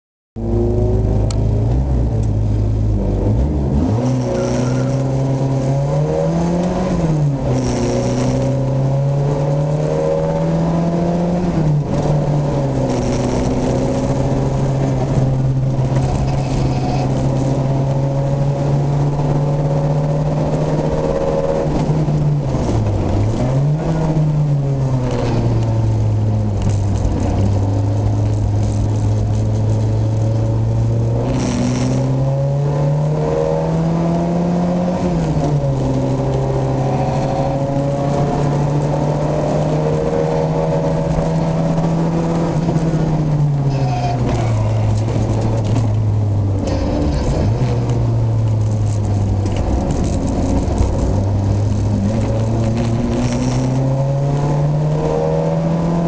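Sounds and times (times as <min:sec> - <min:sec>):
car engine revving: 0:00.4 - 0:56.0.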